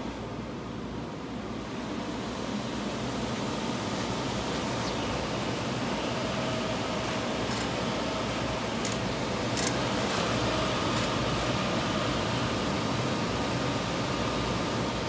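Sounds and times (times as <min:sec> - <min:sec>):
printer fans and carriage whirring: 0:00.0 - 0:15.0.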